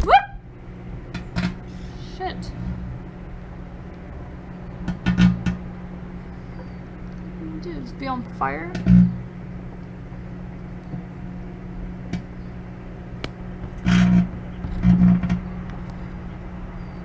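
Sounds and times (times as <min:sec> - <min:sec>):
microwave oven hum: 0:00.0 - 0:17.0.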